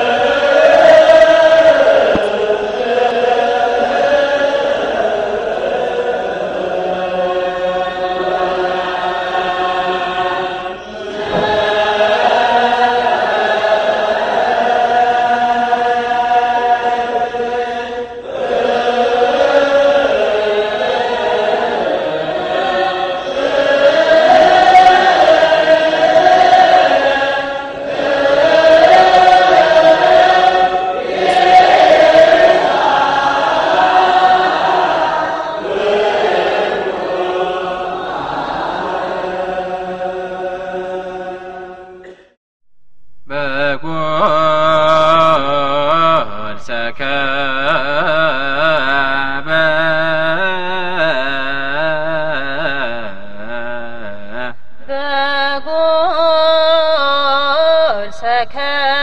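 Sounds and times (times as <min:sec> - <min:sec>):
choir chanting a hymn: 0:00.0 - 0:42.4, 0:43.3 - 0:59.0.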